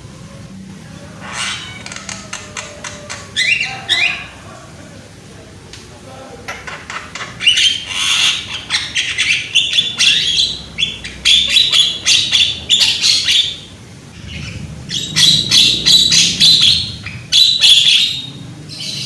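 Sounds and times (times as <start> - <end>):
bird squawking and chattering: 1.1 - 4.4, 6.5 - 19.0.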